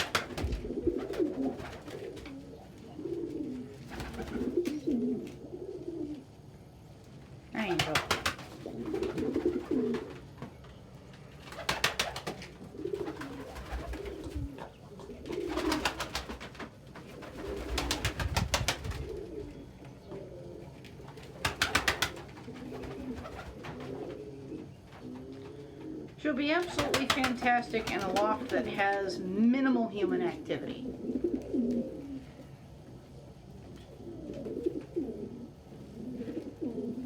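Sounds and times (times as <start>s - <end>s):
pigeons cooing: 0.0s - 6.9s, 7.6s - 29.2s, 30.2s - 37.0s.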